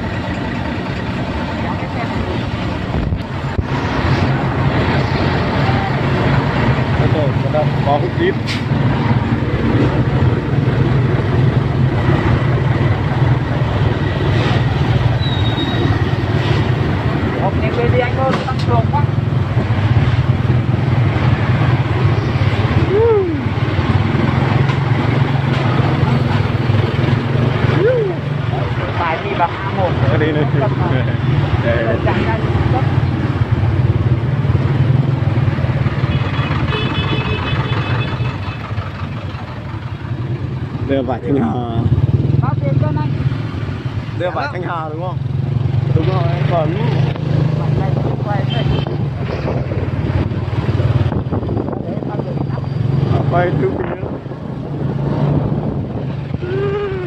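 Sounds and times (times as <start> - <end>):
vehicle engine running: 0.0 - 48.5
road and traffic noise: 0.0 - 57.0.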